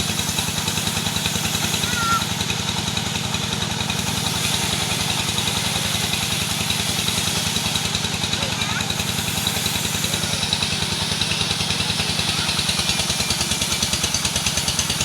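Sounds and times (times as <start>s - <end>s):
engine chugging steadily: 0.0s - 15.0s.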